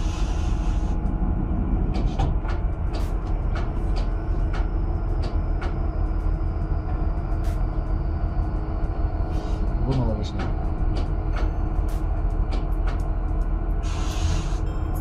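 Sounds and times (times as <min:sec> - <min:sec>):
deep engine rumble: 0:00.0 - 0:15.0.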